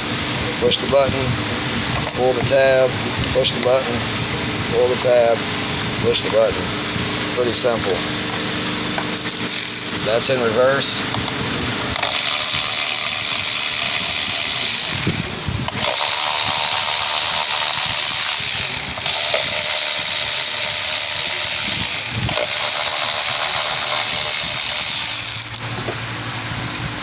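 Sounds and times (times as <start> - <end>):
electric ratchet spinning: 0.0 - 27.0.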